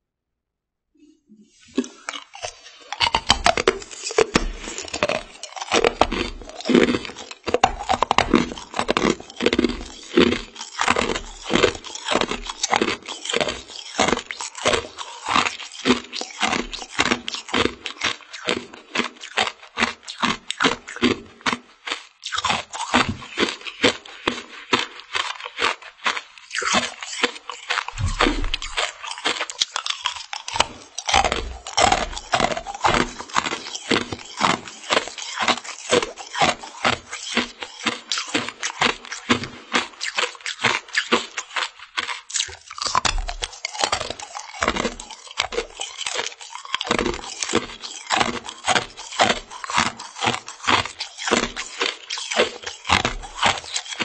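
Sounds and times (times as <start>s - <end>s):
candy crunching: 1.6s - 54.0s.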